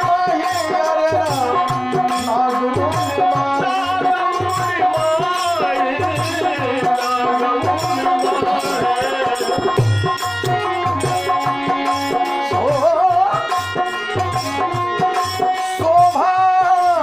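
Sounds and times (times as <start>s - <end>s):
person singing: 0.0s - 17.0s
rattling percussion: 0.0s - 17.0s
tabla rhythm: 0.0s - 17.0s.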